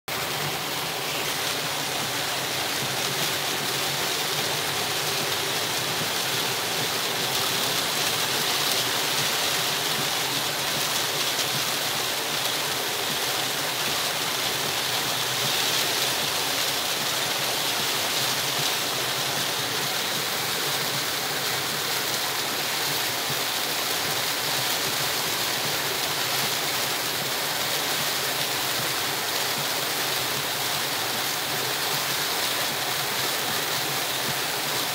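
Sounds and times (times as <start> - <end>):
heavy rain on a car: 0.1 - 34.9.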